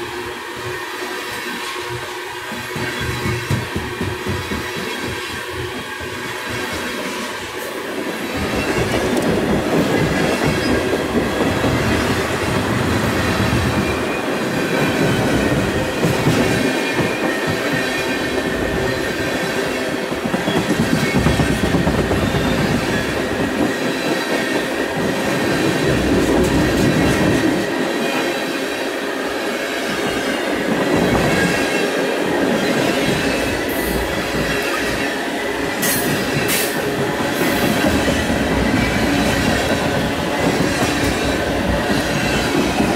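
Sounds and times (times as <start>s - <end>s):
train wheels rumbling over rails: 0.0s - 42.9s.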